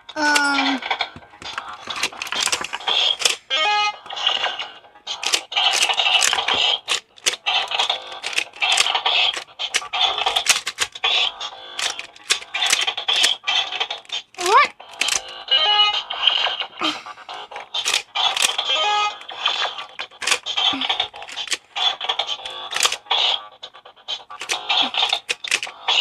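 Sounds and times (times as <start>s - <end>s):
plastic clicks of twisted blocks: 0.0s - 16.7s, 17.3s - 26.0s.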